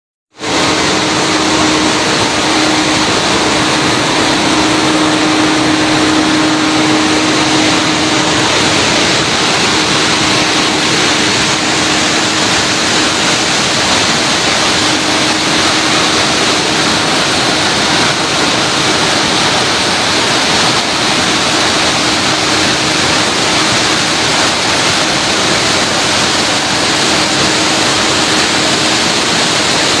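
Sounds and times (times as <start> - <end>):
loud rushing noise: 0.3 - 30.0.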